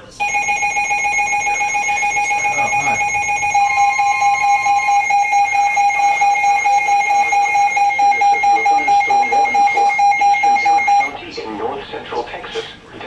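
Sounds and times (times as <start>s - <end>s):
emergency alert alarm tone: 0.0s - 11.2s
fainter second tone: 0.0s - 11.2s.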